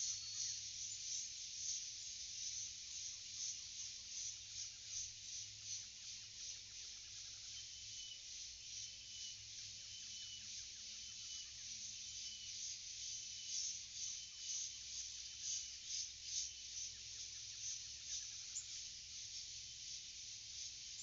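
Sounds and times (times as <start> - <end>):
chorus of insects: 0.0 - 21.0.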